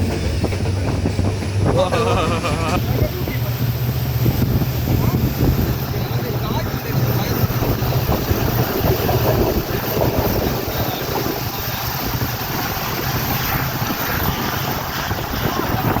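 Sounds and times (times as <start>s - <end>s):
vehicle rumble: 0.0s - 16.0s
wind buffeting microphone: 0.0s - 16.0s.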